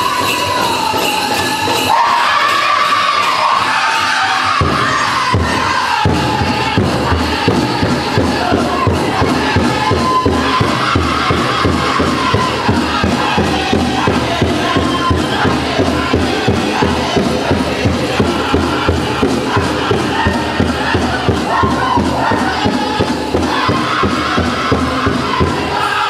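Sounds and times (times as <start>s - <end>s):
big drum fast beat: 0.0s - 26.0s
high-pitched group singing: 0.0s - 26.0s.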